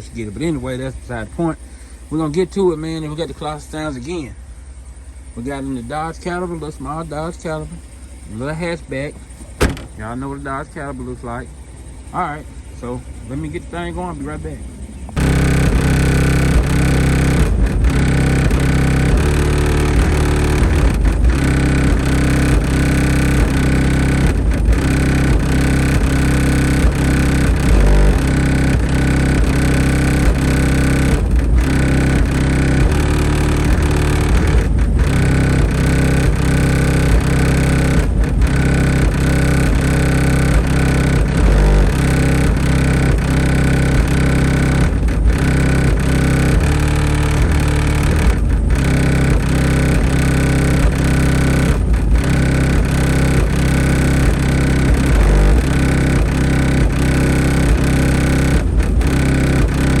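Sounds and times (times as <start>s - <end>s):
bass-heavy music from subwoofers: 5.0s - 10.2s, 12.7s - 60.0s.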